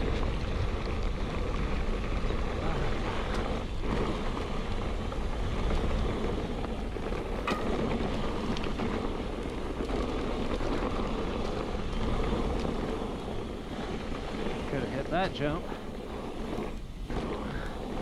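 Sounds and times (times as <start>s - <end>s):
bike clicks and rattles: 0.0s - 18.0s
tyres rolling over dirt: 0.0s - 18.0s
wind rushing over microphone: 0.0s - 18.0s.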